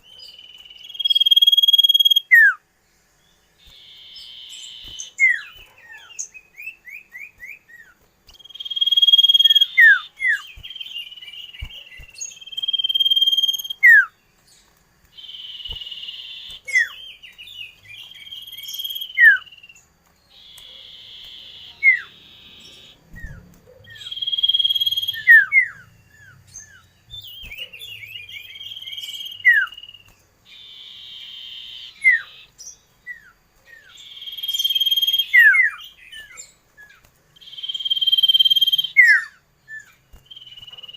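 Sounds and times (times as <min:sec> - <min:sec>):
songbird singing trills and whistles: 0:00.0 - 0:40.9.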